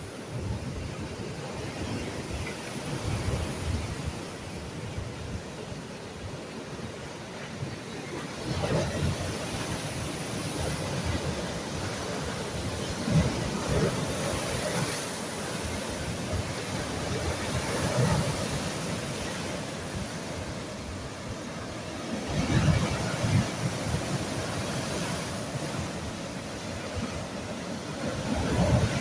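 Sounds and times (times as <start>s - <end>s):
sea waves washing onto shore: 0.0s - 29.0s
wind rumbling on microphone: 0.0s - 29.0s.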